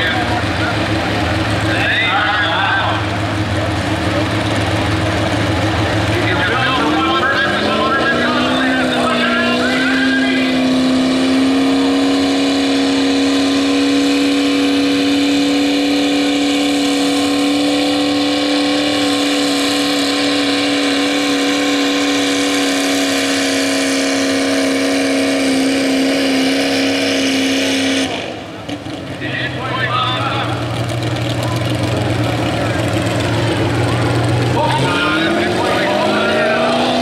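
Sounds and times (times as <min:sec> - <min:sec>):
truck engine at high revs: 0:00.0 - 0:37.0.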